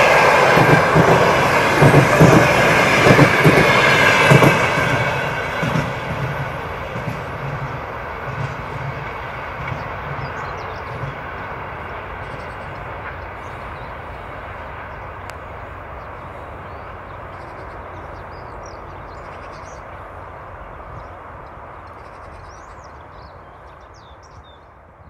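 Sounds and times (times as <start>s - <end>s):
diesel train rumbling: 0.0s - 25.0s
birds chirping: 0.1s - 24.8s.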